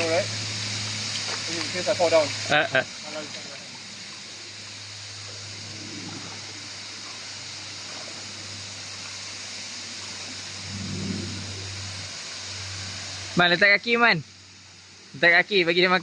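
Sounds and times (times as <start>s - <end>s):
stream and waterfall rushing: 0.0s - 16.0s.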